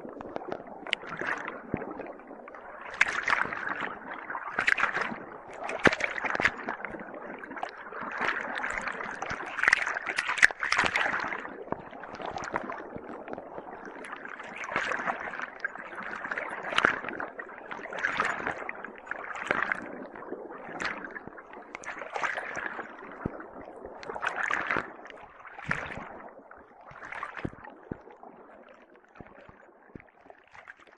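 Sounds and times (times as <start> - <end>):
aquarium water bubbling: 0.0 - 30.9
small splashes: 0.0 - 30.9.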